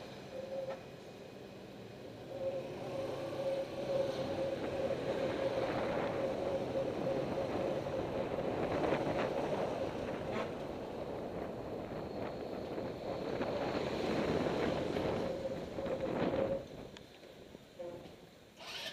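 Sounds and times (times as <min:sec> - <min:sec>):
tyre and road noise: 0:00.0 - 0:18.9.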